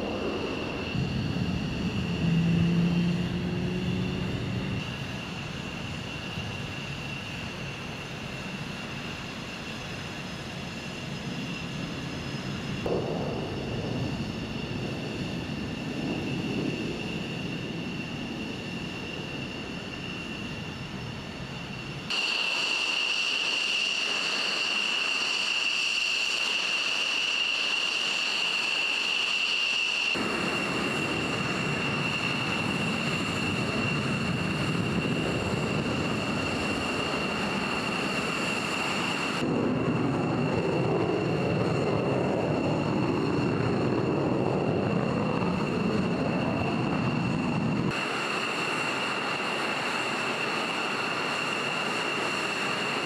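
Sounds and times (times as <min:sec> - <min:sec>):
high-pitched turbine whine: 0:00.0 - 0:53.0
jet aircraft roar: 0:00.0 - 0:53.0.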